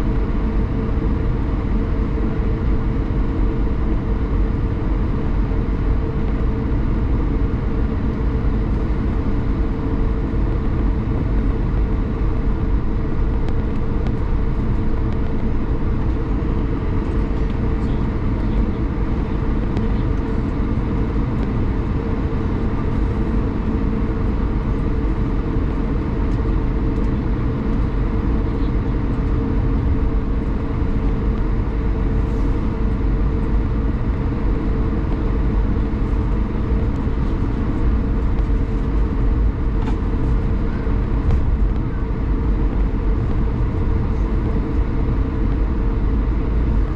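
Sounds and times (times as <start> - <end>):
aircraft cabin rumble: 0.0 - 46.9
steady hums: 0.0 - 46.9.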